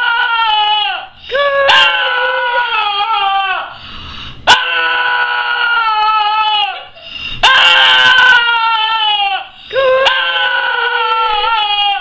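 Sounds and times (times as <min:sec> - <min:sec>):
small dog screaming: 0:00.0 - 0:03.7, 0:04.5 - 0:12.0.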